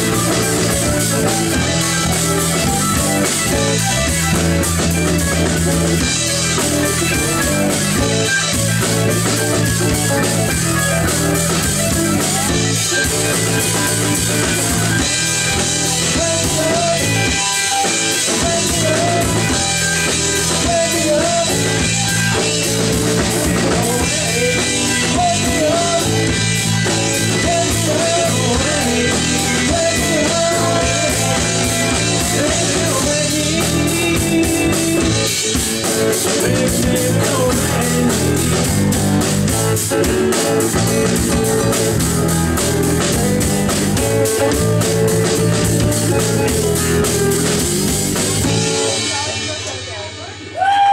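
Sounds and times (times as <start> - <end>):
wavering melodic lead line: 0.0 - 50.5
live rock band playing: 0.0 - 50.9.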